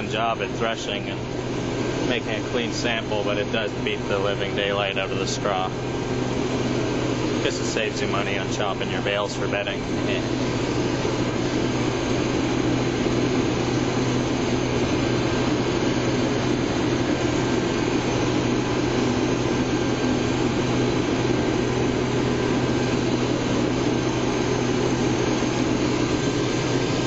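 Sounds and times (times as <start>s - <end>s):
combine harvester engine drone: 0.0s - 27.0s.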